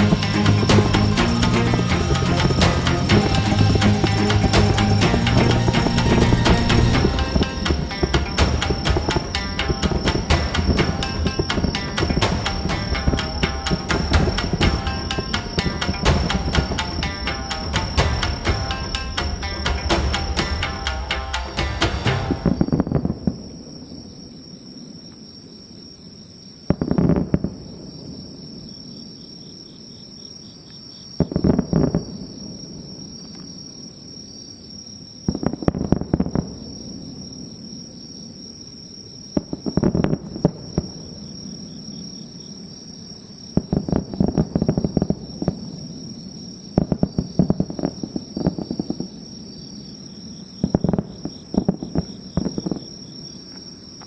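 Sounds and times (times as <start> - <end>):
fireworks bangs and crackles: 0.0 - 25.2, 26.6 - 29.1, 31.1 - 34.3, 35.1 - 54.0
insects chirping: 0.0 - 54.0.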